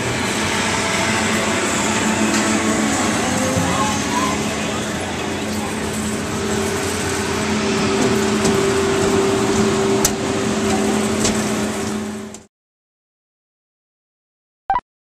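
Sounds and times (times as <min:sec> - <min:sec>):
carnival ride machinery hum: 0:00.0 - 0:12.5.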